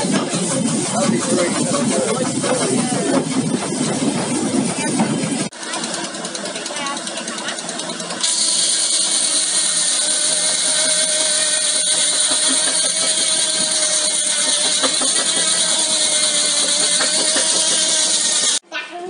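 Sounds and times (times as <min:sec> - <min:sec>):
machine running with hiss and hum: 0:00.0 - 0:18.6.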